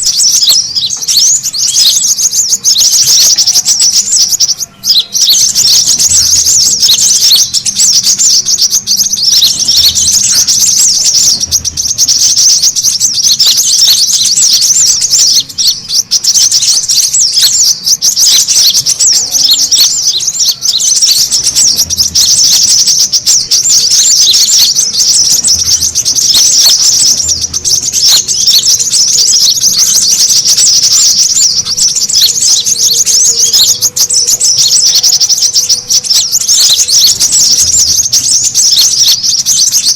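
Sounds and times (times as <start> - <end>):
bird twittering: 0.0 - 39.9.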